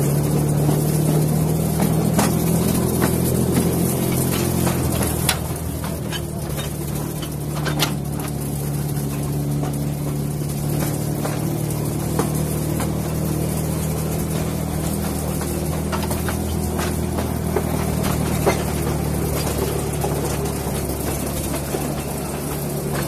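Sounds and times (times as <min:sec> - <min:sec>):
locomotive engine drone: 0:00.0 - 0:23.0.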